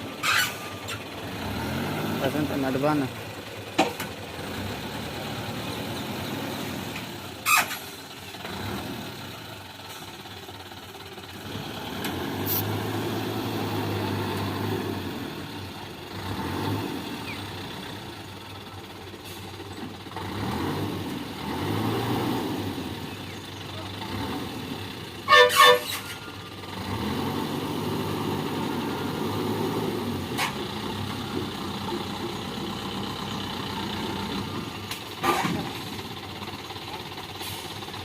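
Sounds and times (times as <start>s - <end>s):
combine harvester engine running: 0.0s - 38.0s.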